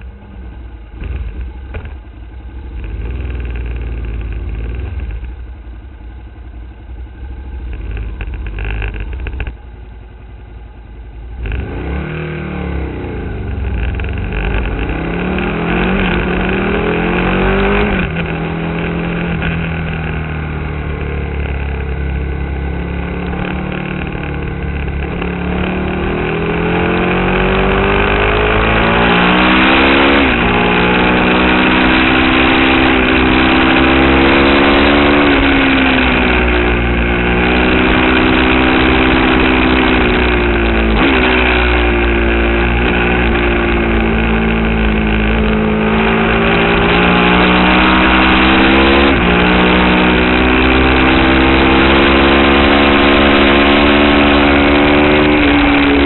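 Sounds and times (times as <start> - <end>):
motorcycle engine revving: 0.0 - 6.2, 6.8 - 9.6, 11.2 - 56.0.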